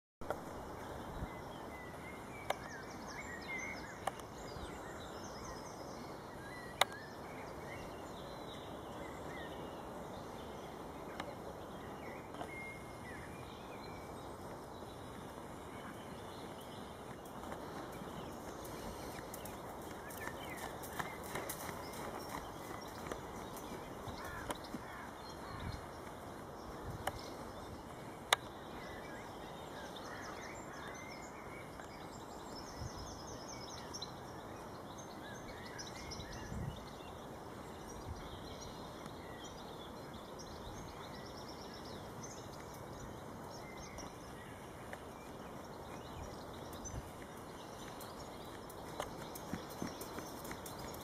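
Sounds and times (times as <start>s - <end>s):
songbirds trilling and chirping: 0.2s - 51.0s
steady outdoor hiss: 0.2s - 51.0s.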